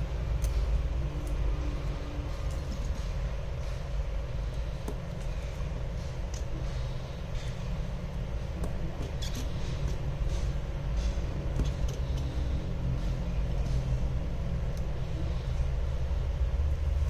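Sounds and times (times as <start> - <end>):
low rumble with faint hum: 0.0 - 17.0.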